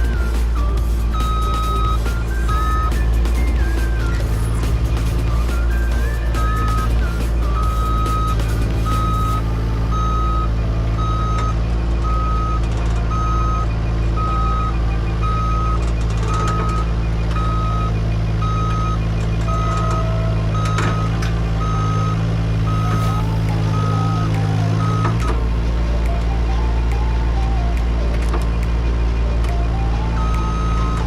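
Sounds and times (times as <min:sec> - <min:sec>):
heavy machine engine running: 0:00.0 - 0:31.0
reversing alarm beeping: 0:00.0 - 0:31.0.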